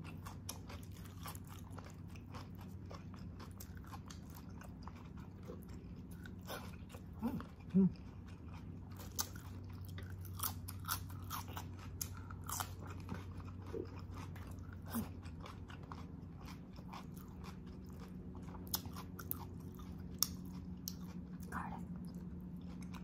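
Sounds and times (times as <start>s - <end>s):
faint low hum: 0.0s - 23.0s
person chewing with wet smacks: 0.0s - 23.0s.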